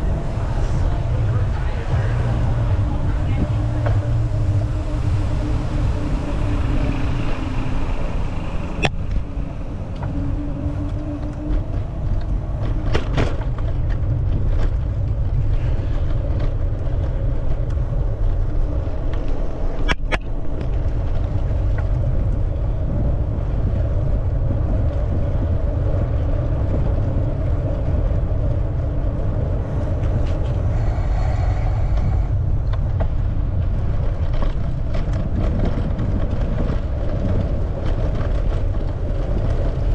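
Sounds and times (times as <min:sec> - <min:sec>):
traffic: 0:00.0 - 0:39.9
wind and road noise: 0:00.0 - 0:39.9.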